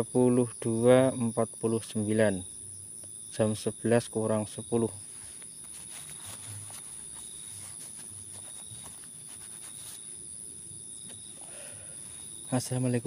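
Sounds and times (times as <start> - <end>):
crickets trilling: 0.0 - 13.0
lower steady insect tone: 0.0 - 13.0.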